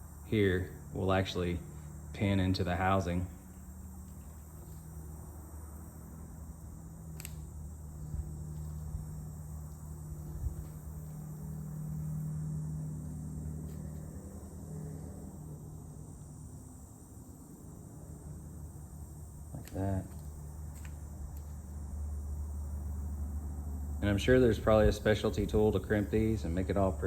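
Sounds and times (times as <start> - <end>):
crickets chirring: 0.0 - 27.0
low steady hum: 0.0 - 27.0.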